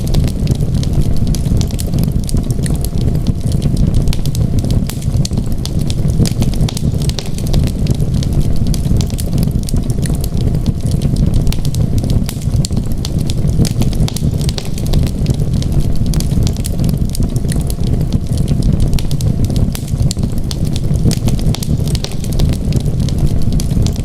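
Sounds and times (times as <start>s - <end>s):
deep rumble: 0.0s - 24.0s
wood fire crackling: 0.0s - 24.0s.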